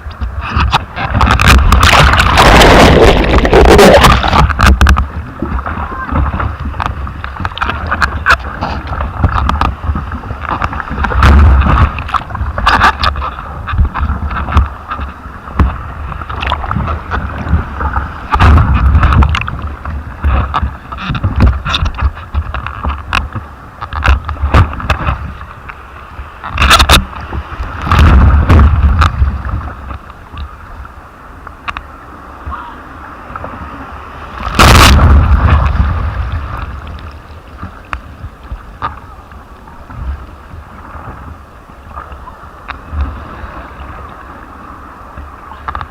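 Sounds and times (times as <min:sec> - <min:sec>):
sea water sloshing: 0:00.0 - 0:45.9
wind buffeting microphone: 0:00.0 - 0:45.9.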